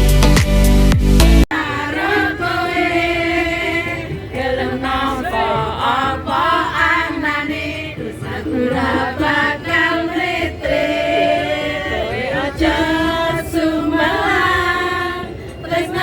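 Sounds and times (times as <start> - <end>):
pop song with vocals: 1.5 - 16.0.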